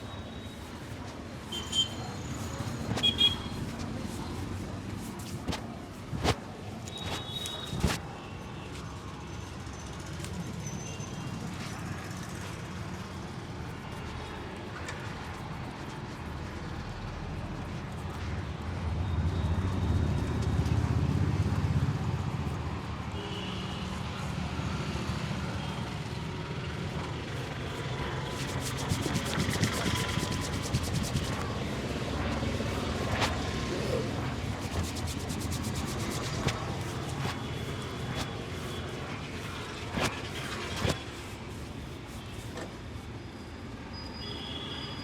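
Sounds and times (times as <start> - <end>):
street traffic noise: 0.0 - 45.0.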